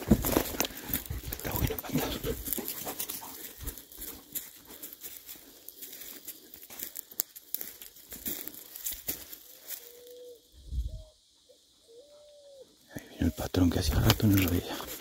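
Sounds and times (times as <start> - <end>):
twigs and leaves crackling underfoot: 0.0 - 10.4, 13.2 - 15.0.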